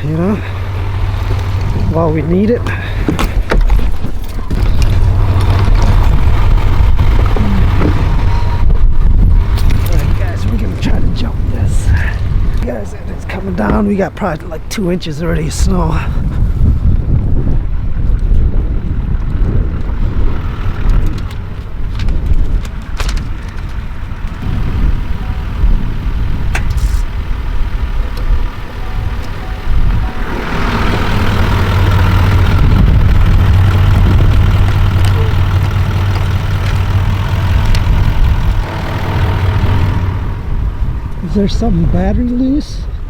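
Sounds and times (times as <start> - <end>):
vehicle engine idling: 0.0 - 43.0
wind buffeting microphone: 0.0 - 43.0.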